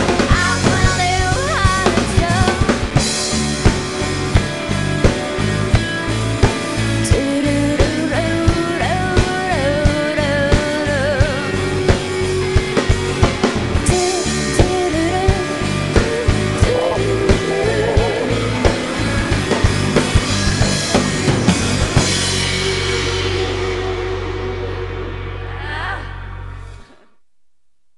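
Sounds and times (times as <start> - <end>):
rock band playing: 0.0 - 25.8.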